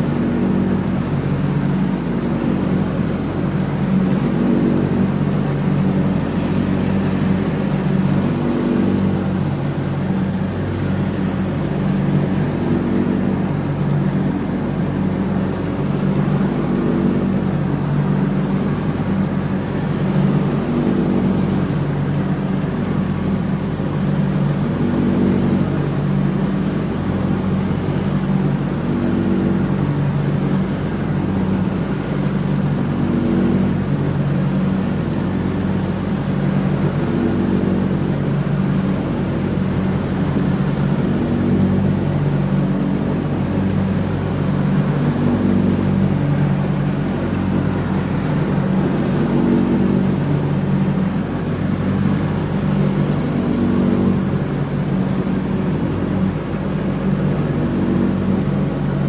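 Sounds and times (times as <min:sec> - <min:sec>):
lawn tractor engine mowing: 0:00.0 - 0:59.0.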